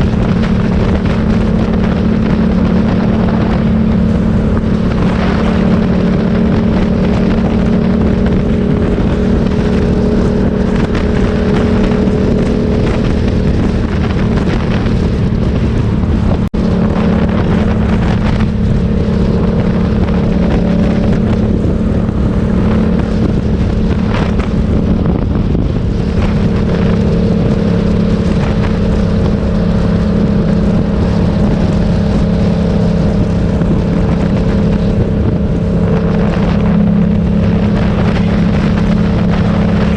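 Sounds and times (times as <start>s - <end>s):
motorcycle engine drone: 0.0s - 39.9s
wind noise on microphone: 0.0s - 39.9s.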